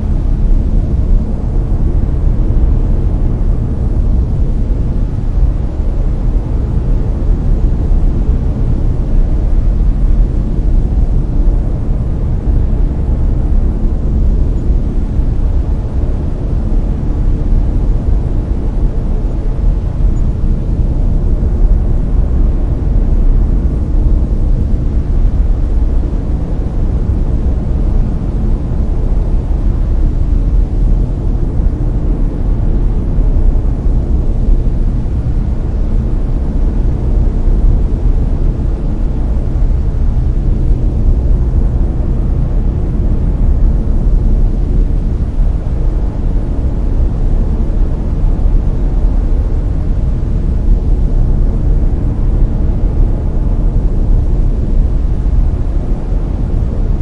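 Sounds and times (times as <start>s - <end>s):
brown noise: 0.0s - 57.0s.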